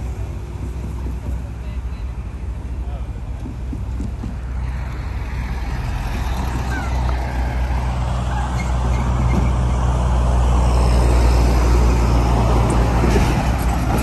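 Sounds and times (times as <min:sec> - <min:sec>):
road traffic passing: 0:00.0 - 0:14.0
truck passing: 0:00.0 - 0:14.0.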